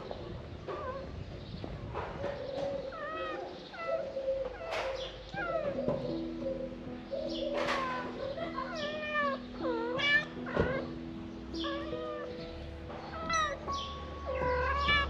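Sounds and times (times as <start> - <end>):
cats meowing: 0.0 - 15.0.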